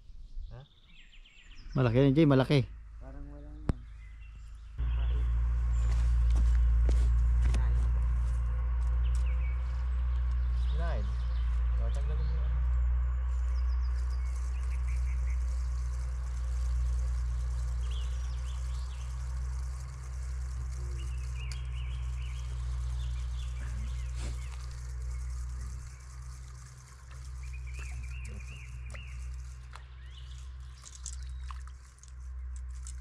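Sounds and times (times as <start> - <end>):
small birds chirping: 0.0 - 33.0
steady low rumble: 1.8 - 33.0.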